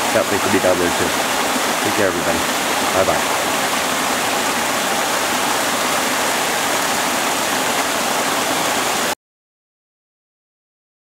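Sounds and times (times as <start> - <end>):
flowing water rushing: 0.0 - 9.2.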